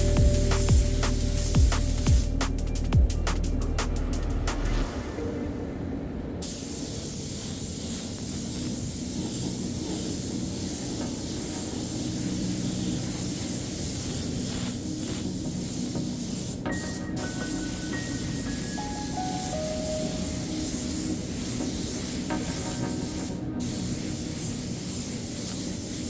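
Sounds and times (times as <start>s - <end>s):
spray gun hissing: 0.0s - 2.4s, 6.4s - 26.0s.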